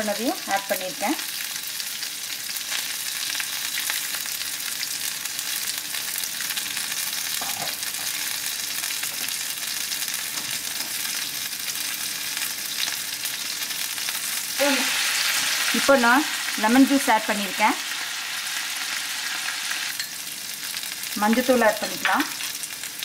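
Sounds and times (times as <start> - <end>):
oil sizzling in frying pan: 0.0 - 23.0.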